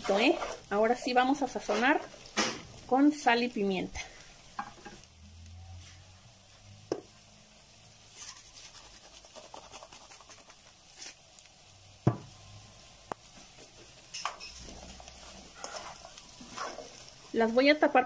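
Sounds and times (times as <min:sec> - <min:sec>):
vegetables sizzling in a skillet: 0:00.0 - 0:18.0.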